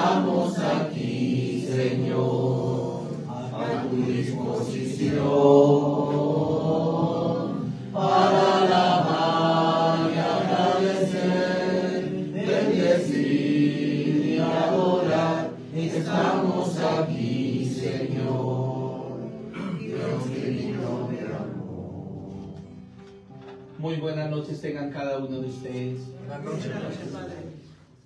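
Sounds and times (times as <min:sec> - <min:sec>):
voices singing a slow hymn: 0:00.0 - 0:23.0.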